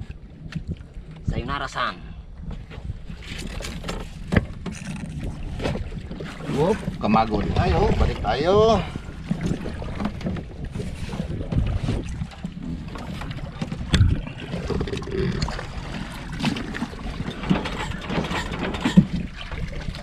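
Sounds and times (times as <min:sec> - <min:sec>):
wind buffeting microphone: 0:00.0 - 0:20.0
water washing around boat: 0:02.6 - 0:20.0.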